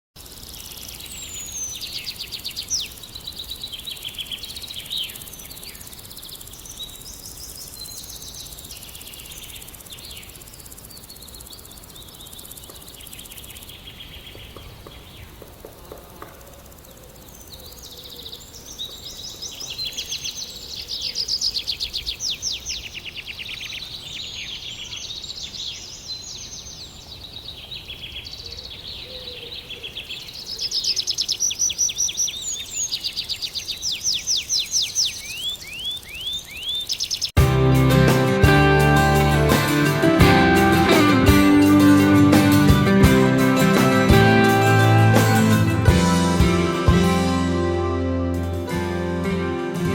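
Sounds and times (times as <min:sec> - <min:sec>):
low outdoor background hiss: 0:00.2 - 0:42.6
birds chirping and singing: 0:00.5 - 0:16.0, 0:16.7 - 0:47.5.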